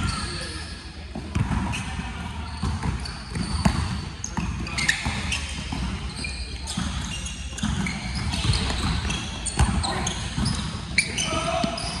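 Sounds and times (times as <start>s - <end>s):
sneakers squeaking on floor: 0.0s - 12.0s
basketball bouncing on court: 1.1s - 12.0s.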